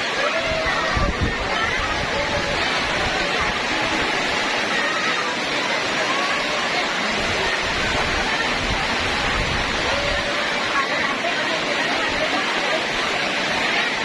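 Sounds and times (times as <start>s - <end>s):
faint voices: 0.0s - 14.0s
heavy rain pouring: 0.0s - 14.0s.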